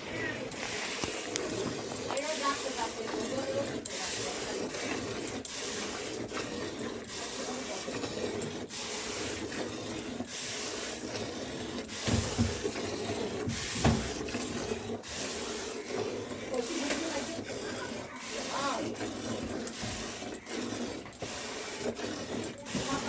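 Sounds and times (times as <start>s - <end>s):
milk squirting into a pail: 0.0s - 23.0s.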